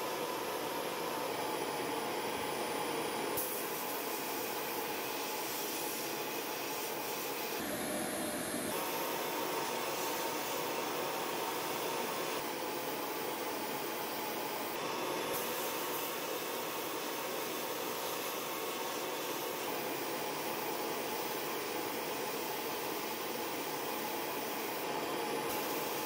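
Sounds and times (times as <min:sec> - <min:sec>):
sandblasting gun hissing: 0:03.4 - 0:07.6, 0:08.7 - 0:26.0.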